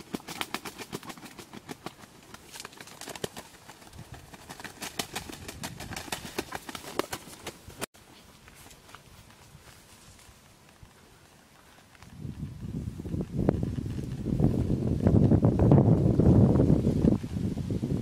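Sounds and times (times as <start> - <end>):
rustling of dry grass and leaves: 0.0 - 18.0.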